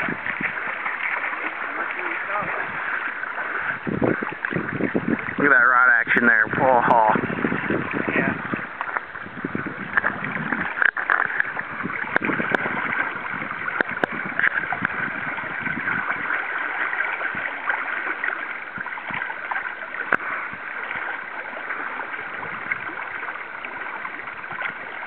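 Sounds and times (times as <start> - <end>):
river current rushing and gurgling: 0.0 - 25.0.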